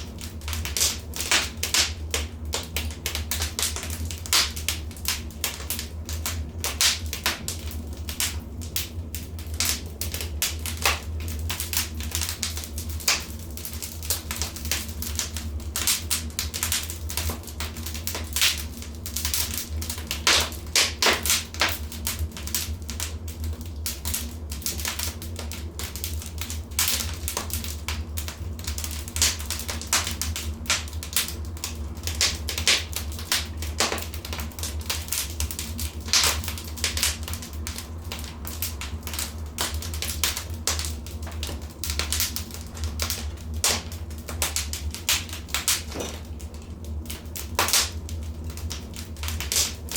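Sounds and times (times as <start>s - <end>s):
steady low hum: 0.0s - 49.9s
wood fire crackling: 0.0s - 49.9s.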